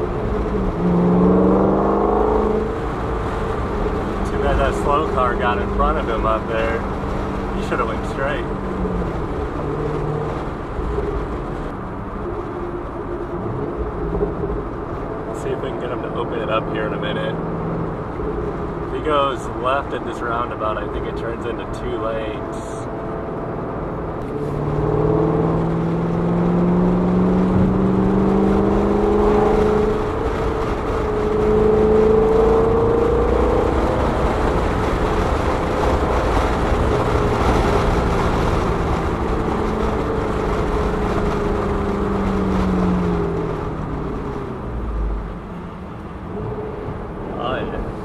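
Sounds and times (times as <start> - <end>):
car engine accelerating: 0.0 - 48.0
road and tyre noise: 0.0 - 48.0.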